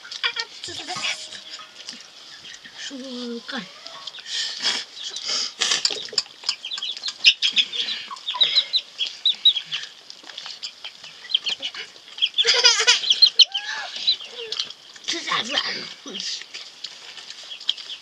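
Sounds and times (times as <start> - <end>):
birds chirping: 0.0 - 16.5.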